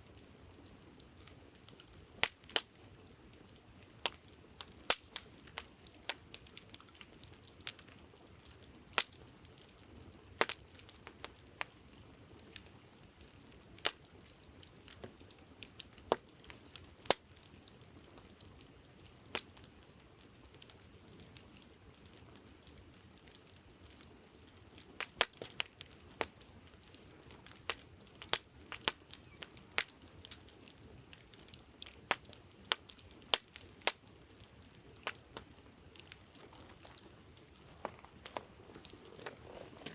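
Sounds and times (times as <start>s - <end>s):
wood campfire crackling: 0.0s - 39.9s.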